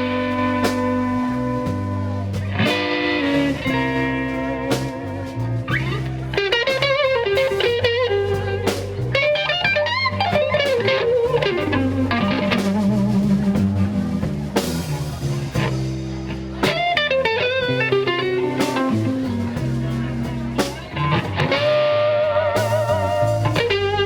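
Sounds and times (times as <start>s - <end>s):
bass and drums: 0.0s - 24.0s
electric guitar lead: 0.0s - 24.0s.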